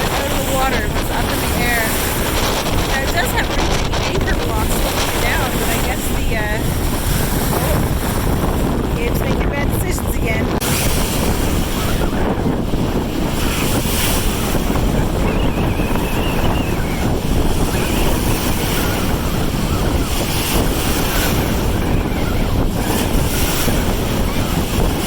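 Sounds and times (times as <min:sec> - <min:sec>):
waves breaking and surging: 0:00.0 - 0:25.0
wind buffeting microphone: 0:00.0 - 0:25.0.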